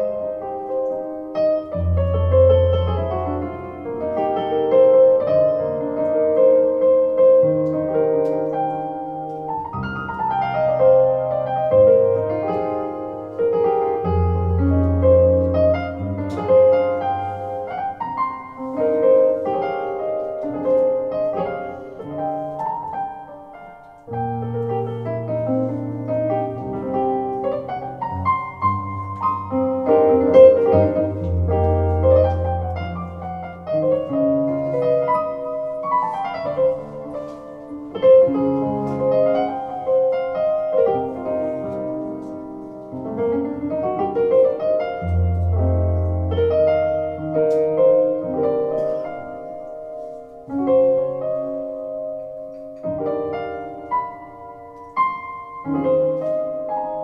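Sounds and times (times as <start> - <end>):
solo piano chords: 0.0 - 57.0.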